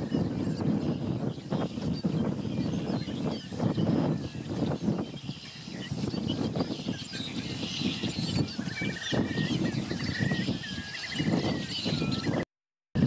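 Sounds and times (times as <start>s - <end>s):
wild birds chirping: 0.0s - 12.5s.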